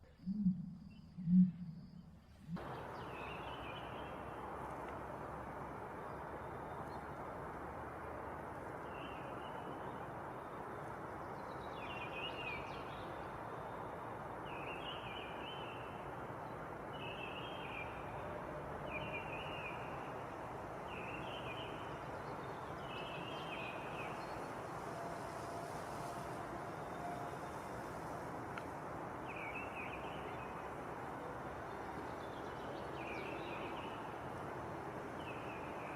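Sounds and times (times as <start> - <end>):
steady outdoor hiss: 0.0 - 35.9.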